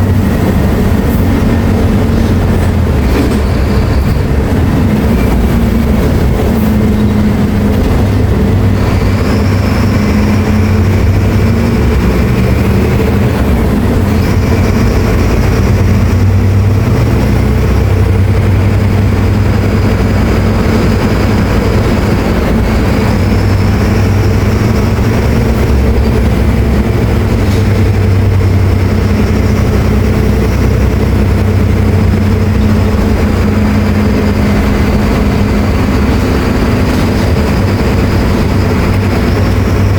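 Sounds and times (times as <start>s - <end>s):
bus diesel engine running: 0.0s - 39.9s
high whine: 0.0s - 39.9s.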